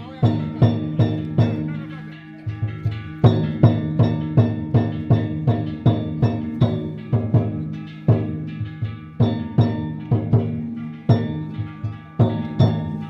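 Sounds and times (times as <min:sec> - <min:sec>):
ringing gongs: 0:00.0 - 0:13.0
taiko drum beat: 0:00.0 - 0:13.0.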